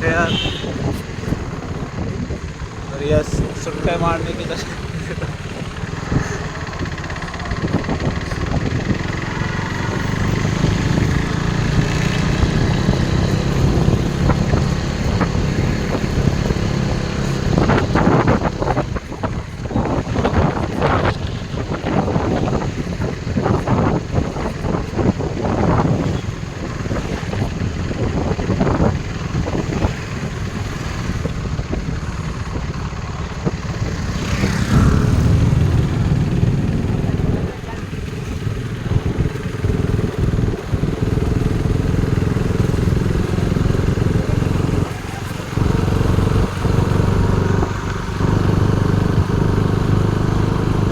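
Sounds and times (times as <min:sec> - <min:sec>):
motorcycle engine running: 0:00.0 - 0:50.9
wind buffeting microphone: 0:00.0 - 0:50.9.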